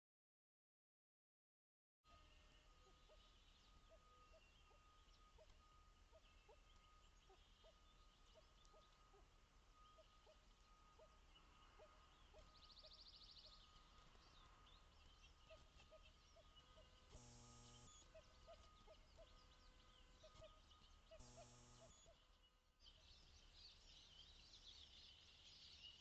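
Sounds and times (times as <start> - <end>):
faint steady tone: 2.1 - 26.0.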